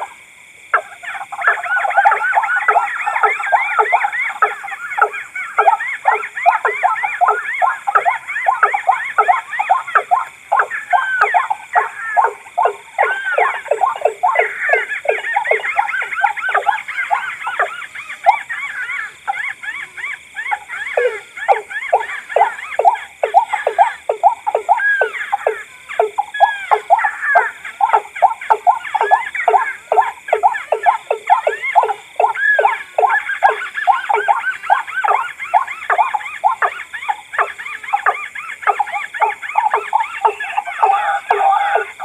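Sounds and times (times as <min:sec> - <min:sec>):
fast falling rail calls: 0:00.0 - 0:18.2, 0:20.6 - 0:42.0
hooked rising-and-falling bird calls: 0:00.7 - 0:42.0.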